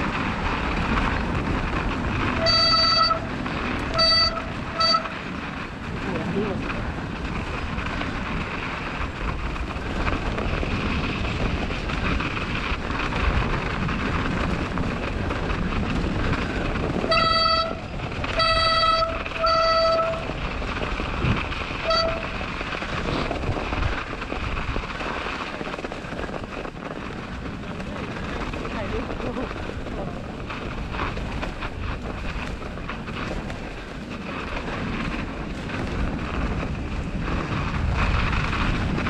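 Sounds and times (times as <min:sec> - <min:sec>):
bicycle rolling on snow: 0:00.0 - 0:39.0
wind rushing: 0:00.0 - 0:39.0.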